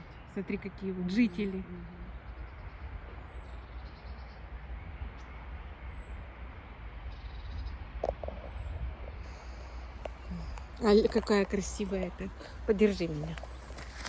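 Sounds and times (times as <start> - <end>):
distant traffic: 0.0 - 14.0.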